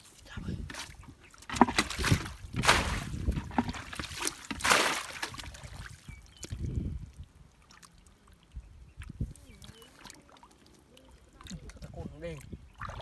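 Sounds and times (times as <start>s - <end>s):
muddy water splashing and pouring: 0.8s - 13.0s.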